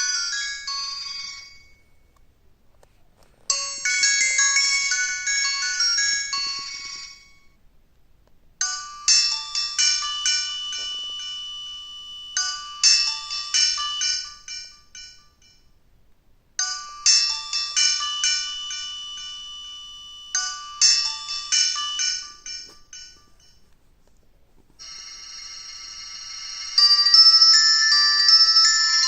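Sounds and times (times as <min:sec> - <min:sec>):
polyphonic phone ringtone: 0:00.0 - 0:02.1, 0:03.5 - 0:07.6, 0:08.6 - 0:15.7, 0:16.6 - 0:23.7, 0:24.8 - 0:29.0.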